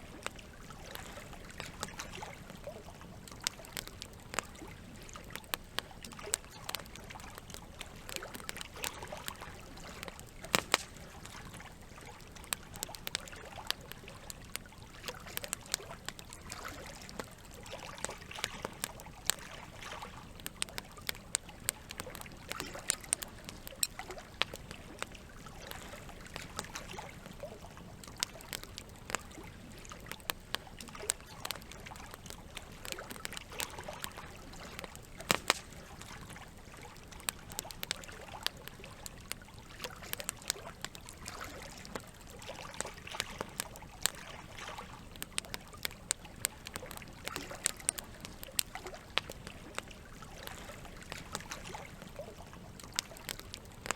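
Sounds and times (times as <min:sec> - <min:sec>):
campfire crackling and popping: 0:00.0 - 0:53.9
running water trickling: 0:00.0 - 0:53.9.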